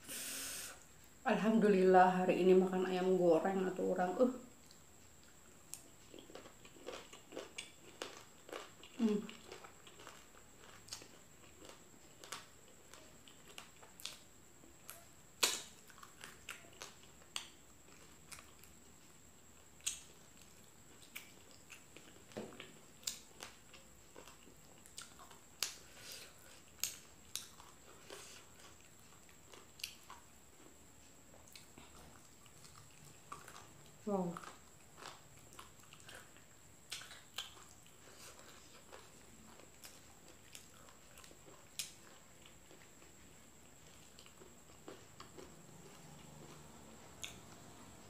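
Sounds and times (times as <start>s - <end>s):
person chewing food: 4.5s - 48.0s.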